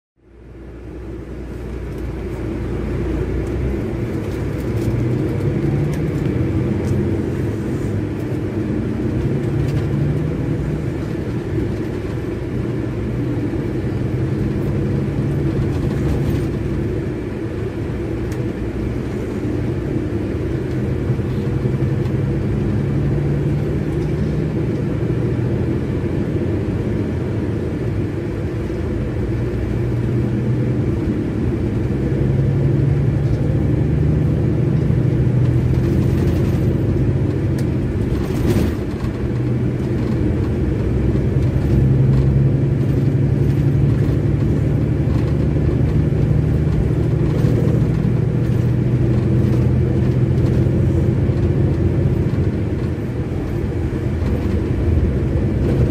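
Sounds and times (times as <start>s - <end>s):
diesel engine low drone: 0.2s - 55.9s.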